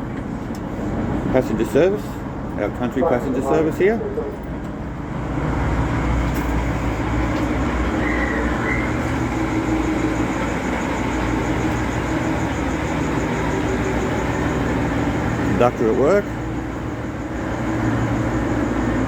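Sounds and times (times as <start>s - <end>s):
train engine idling: 0.0s - 19.0s.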